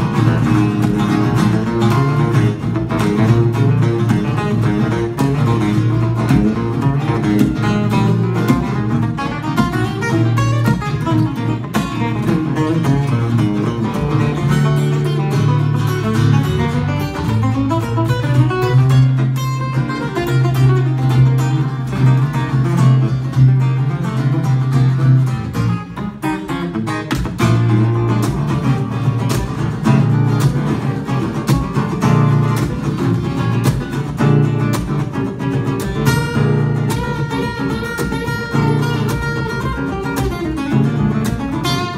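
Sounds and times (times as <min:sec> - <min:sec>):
acoustic guitar duet: 0:00.0 - 0:41.9.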